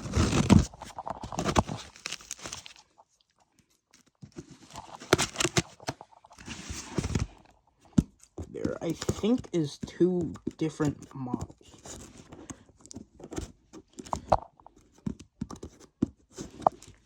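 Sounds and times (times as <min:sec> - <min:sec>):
cardboard box rustling and scraping: 0:00.0 - 0:02.8, 0:04.2 - 0:10.1, 0:10.8 - 0:17.0.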